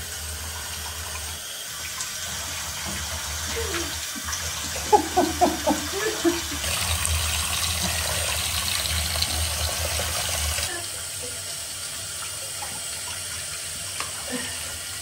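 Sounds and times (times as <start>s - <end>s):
tap water running into bath: 0.0s - 15.0s.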